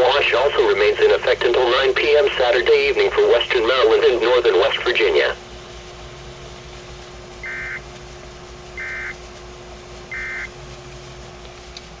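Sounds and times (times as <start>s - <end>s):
radio hiss: 0.0s - 10.6s
steady low hum: 0.0s - 12.0s.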